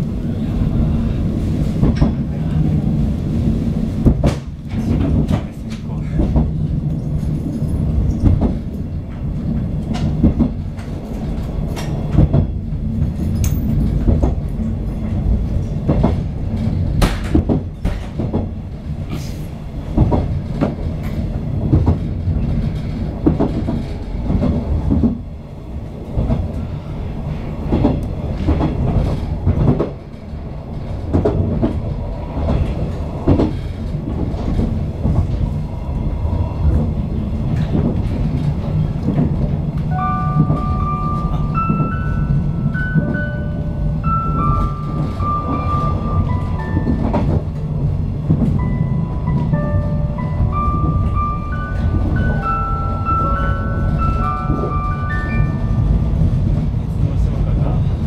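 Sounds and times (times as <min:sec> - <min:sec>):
train low rumble: 0:00.0 - 0:58.0.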